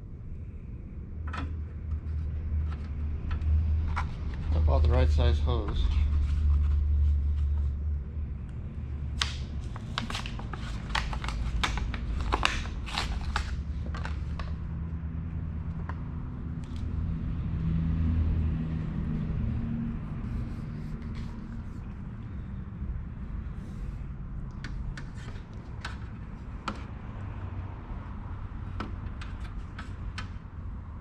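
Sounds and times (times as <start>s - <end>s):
low steady rumble: 0.0s - 31.0s.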